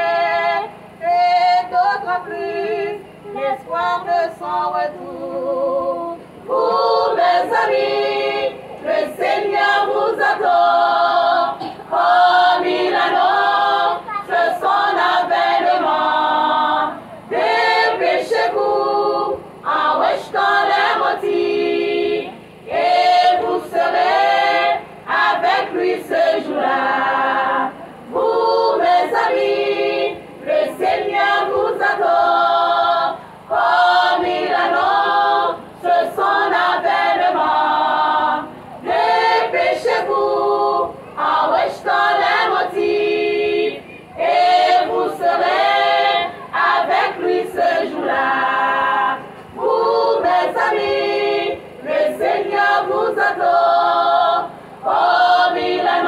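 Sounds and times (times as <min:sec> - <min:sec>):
women's choir singing unaccompanied: 0:00.0 - 0:56.0.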